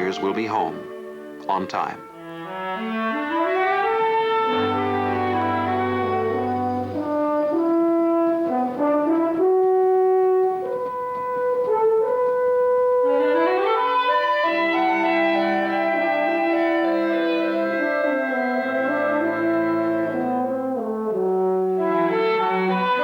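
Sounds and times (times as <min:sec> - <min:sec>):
orchestral brass music: 0:00.0 - 0:23.0.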